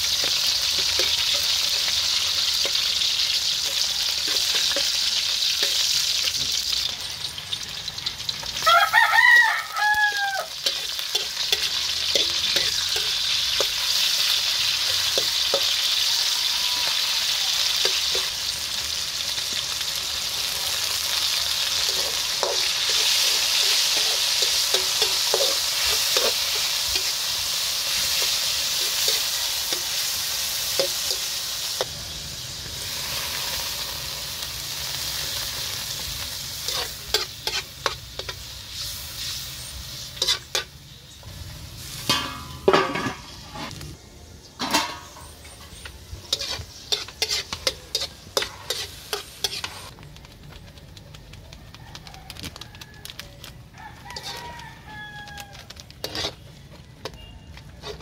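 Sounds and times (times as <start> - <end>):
metal spatula scraping a wok: 0.0 - 6.8, 10.5 - 18.5, 20.5 - 33.9, 34.8 - 43.9, 44.6 - 49.9, 54.1 - 58.0
meat sizzling in a wok: 0.0 - 58.0.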